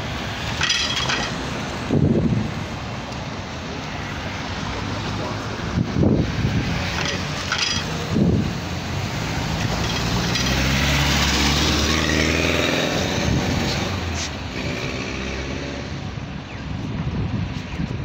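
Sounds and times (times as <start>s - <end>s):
vehicles driving past: 0.0s - 18.0s.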